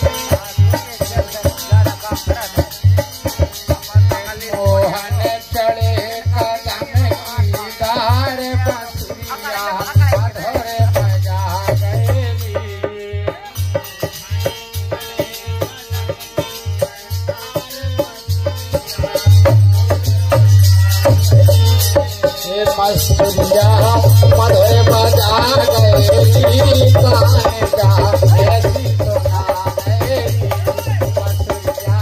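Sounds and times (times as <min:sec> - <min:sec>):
harmonium: 0:00.0 - 0:32.0
rattling hand percussion: 0:00.0 - 0:32.0
steady drum beat: 0:00.0 - 0:32.0
person singing: 0:03.3 - 0:32.0.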